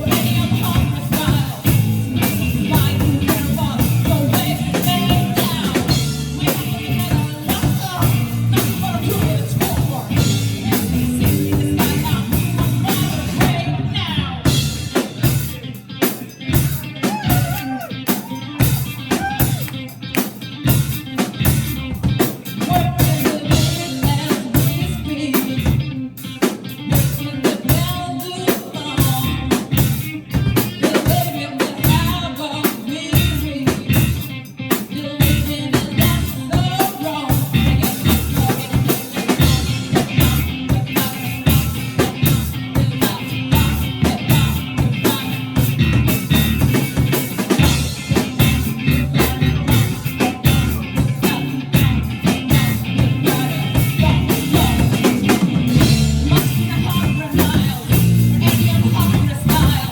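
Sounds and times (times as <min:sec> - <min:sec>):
person singing: 0:00.0 - 0:20.9, 0:22.5 - 0:59.9
live band playing upbeat song: 0:00.0 - 0:59.9.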